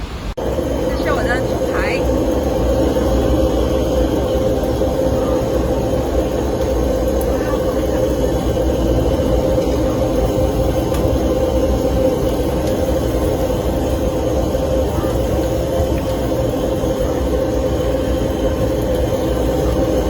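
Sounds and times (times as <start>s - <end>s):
vehicle rumble: 0.0s - 20.0s.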